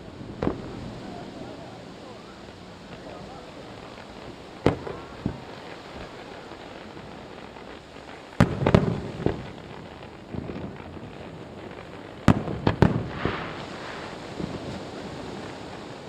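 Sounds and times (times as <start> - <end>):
firework shells booming: 0.0 - 16.0.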